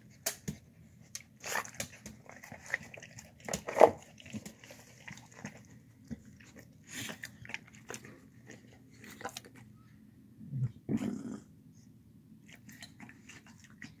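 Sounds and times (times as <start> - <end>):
dog chewing and smacking: 0.0 - 9.7, 12.4 - 14.0.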